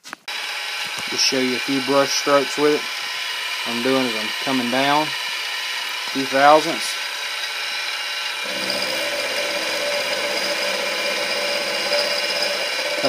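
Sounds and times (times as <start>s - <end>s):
milling machine cutting metal: 0.3s - 13.0s.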